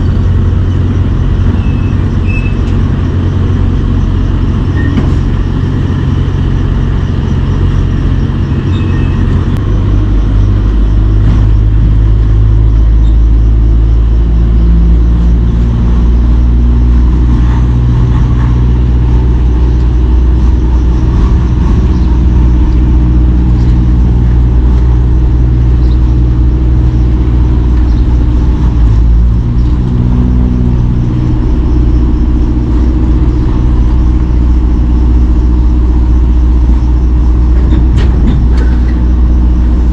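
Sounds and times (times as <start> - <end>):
truck diesel engine droning: 0.0 - 39.9.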